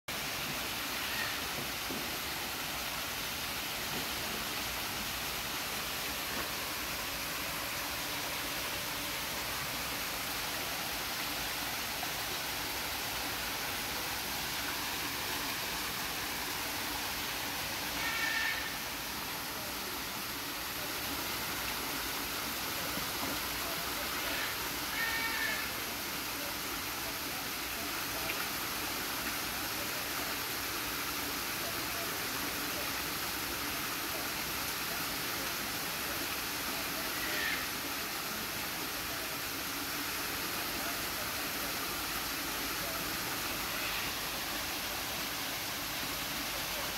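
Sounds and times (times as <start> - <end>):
small waterfall pouring into pond: 0.1 - 46.9
faint background voices: 3.5 - 46.9.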